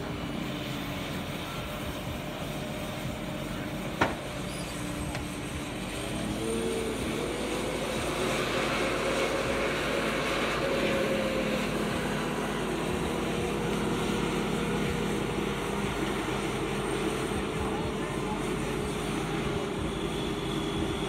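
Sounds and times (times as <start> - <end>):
diesel crane engine running: 0.0 - 21.0.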